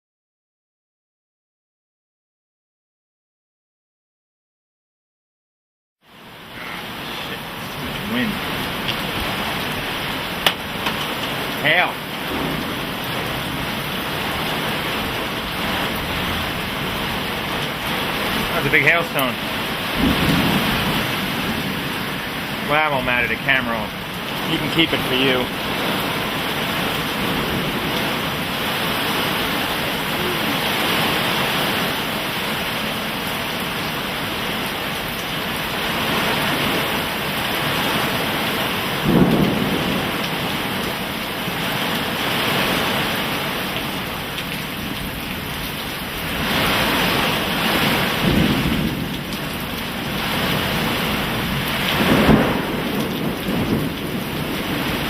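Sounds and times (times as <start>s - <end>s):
rain and hail hitting ground: 6.0s - 55.0s.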